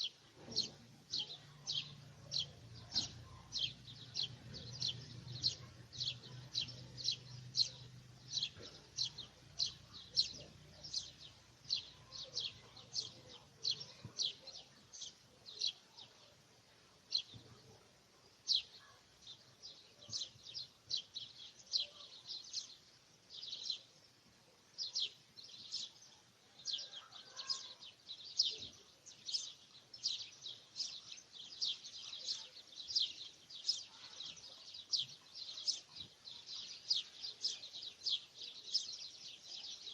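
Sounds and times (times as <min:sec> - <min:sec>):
bird chirping: 0:00.0 - 0:16.4, 0:17.0 - 0:39.9.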